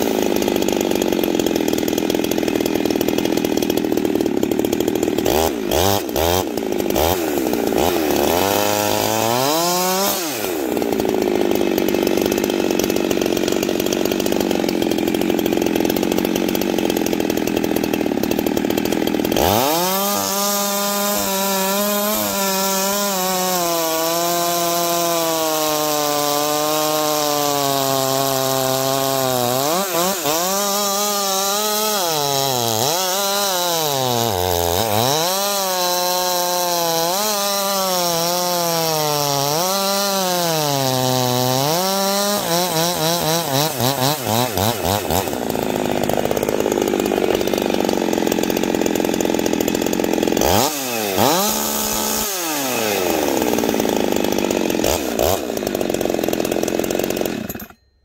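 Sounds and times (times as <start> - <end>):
chainsaw cutting log: 0.0 - 57.9.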